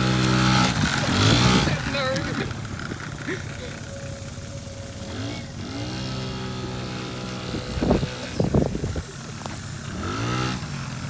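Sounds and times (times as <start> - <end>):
rough bursts of engine noise: 0.0 - 11.0
scooter engine revving: 0.0 - 11.0.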